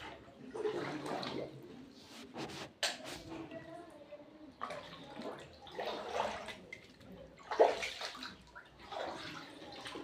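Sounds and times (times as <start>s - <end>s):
water splashing and sloshing: 0.0s - 2.8s, 4.6s - 10.0s.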